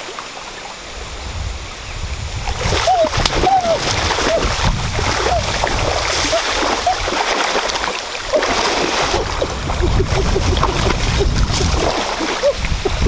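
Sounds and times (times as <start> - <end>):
person wading through muddy water: 2.2 - 13.0.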